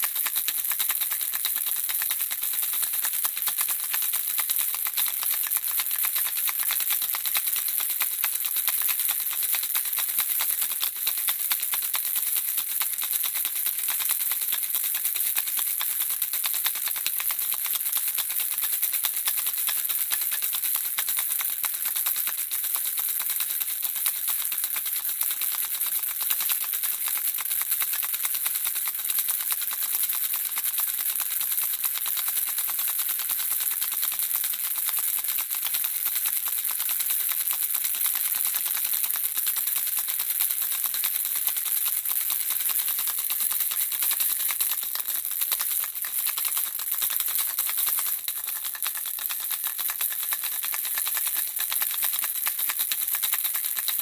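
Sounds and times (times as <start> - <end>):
baby rattle shaken: 0.0 - 54.0.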